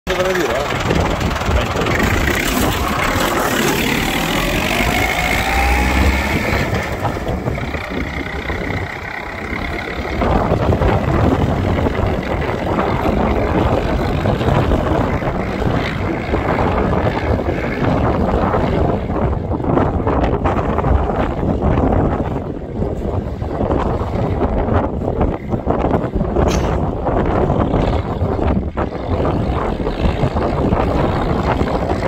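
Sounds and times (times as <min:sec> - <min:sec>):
tractor diesel engine running: 0:00.1 - 0:32.0
wind buffeting microphone: 0:00.1 - 0:32.0.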